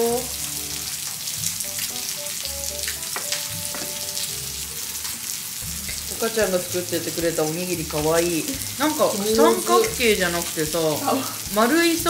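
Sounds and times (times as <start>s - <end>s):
pork sizzling on a grill plate: 0.0s - 12.0s.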